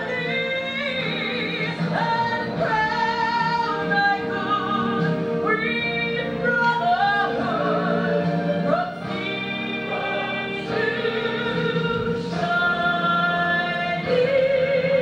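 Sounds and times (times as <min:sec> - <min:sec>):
sustained accompaniment: 0:00.0 - 0:15.0
woman singing slow song: 0:00.0 - 0:15.0.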